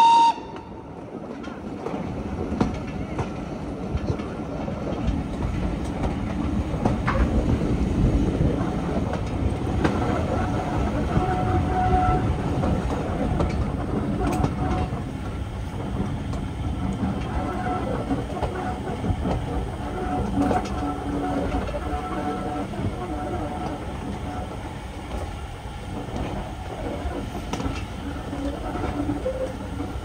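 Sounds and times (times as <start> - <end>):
rail joint clacks: 0.0 - 30.0
wheels rumbling on rail: 0.0 - 30.0.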